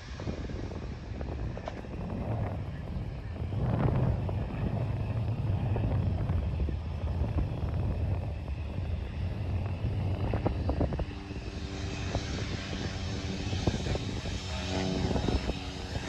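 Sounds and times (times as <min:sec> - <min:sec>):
aircraft engine low rumble: 0:00.0 - 0:16.0
pitched engine drone: 0:00.0 - 0:16.0.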